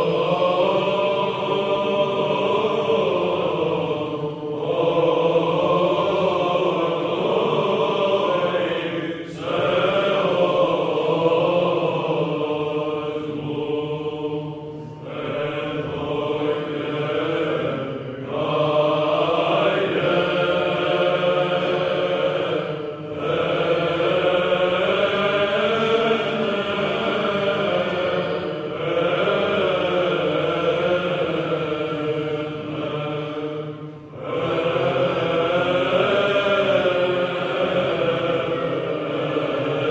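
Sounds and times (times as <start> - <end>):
voices singing religious chant: 0.0 - 39.9.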